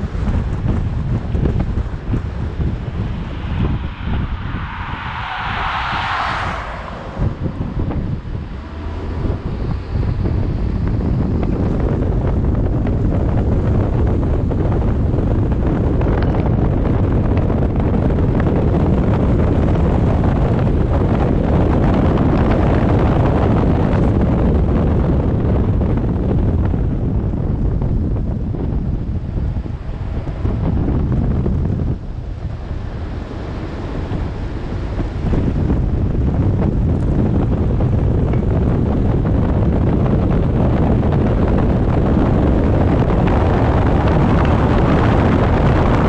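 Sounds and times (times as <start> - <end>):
road and tyre noise: 0.0 - 46.0
wind buffeting microphone: 0.0 - 46.0.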